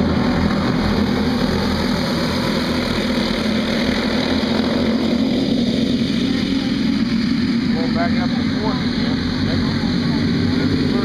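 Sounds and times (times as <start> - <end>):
go-kart engines racing: 0.0 - 11.0.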